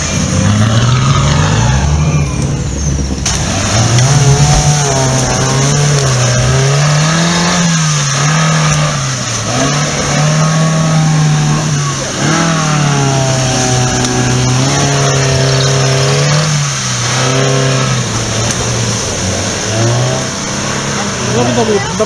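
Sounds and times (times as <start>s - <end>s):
engine revving high under load: 0.0s - 22.0s.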